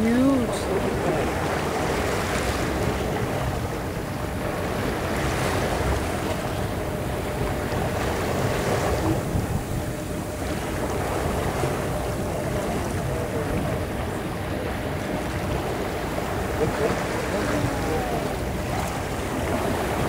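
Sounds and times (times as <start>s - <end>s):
faint steady hum: 0.0s - 20.0s
waves splashing against boat: 0.0s - 20.0s
wind buffeting microphone: 0.0s - 20.0s.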